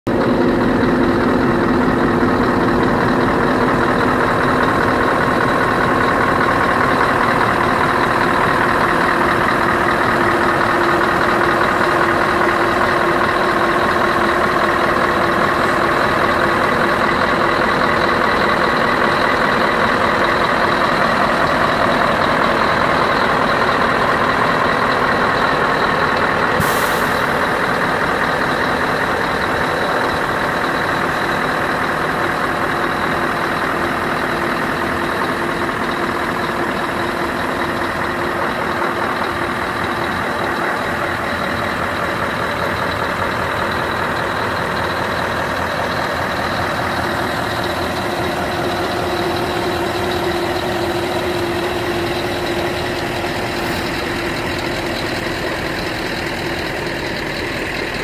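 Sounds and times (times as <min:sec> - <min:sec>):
diesel engine idling: 0:00.1 - 0:58.0.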